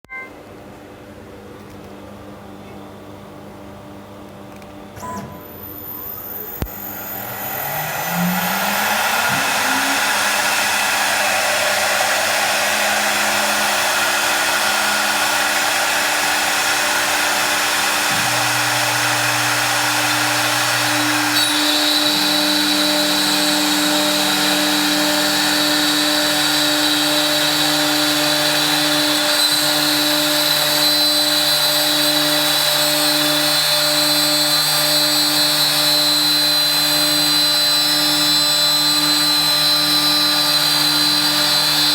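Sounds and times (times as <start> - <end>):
woodworking power tool whirring: 4.6 - 41.9.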